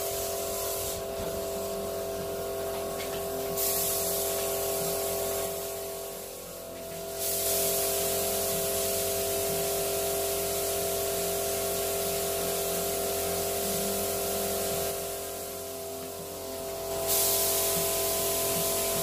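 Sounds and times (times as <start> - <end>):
spray gun hissing: 0.0 - 19.0.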